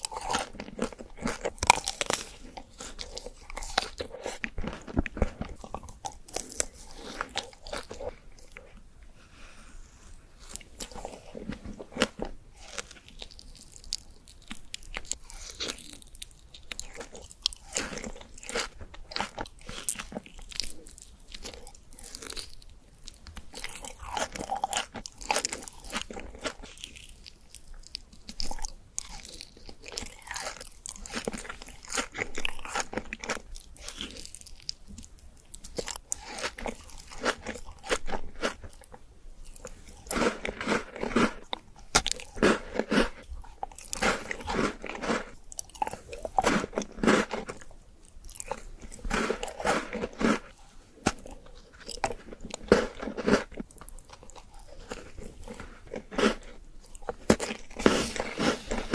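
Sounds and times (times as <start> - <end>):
biting and chewing food: 0.0 - 9.2, 9.8 - 58.9.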